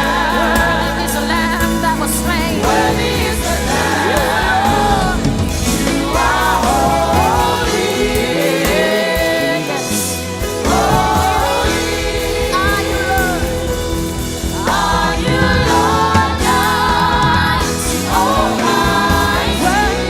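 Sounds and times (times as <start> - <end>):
band accompaniment: 0.0 - 20.0
gospel singers: 0.0 - 20.0.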